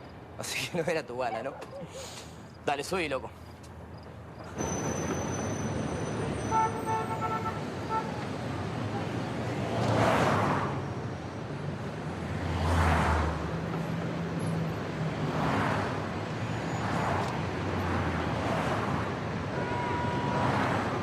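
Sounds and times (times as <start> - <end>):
vehicles swishing past: 1.2 - 21.0.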